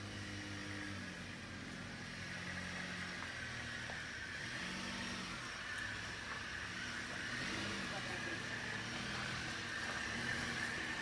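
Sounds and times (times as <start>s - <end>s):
car engine humming at low revs: 0.0s - 11.0s.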